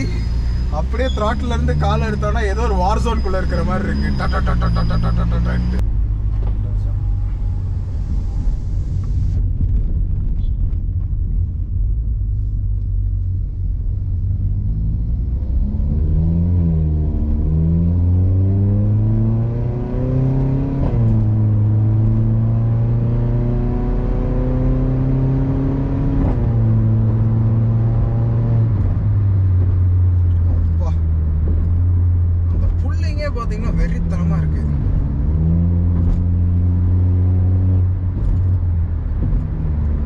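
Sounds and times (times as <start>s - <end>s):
car engine revving: 0.0s - 9.5s, 13.8s - 40.0s.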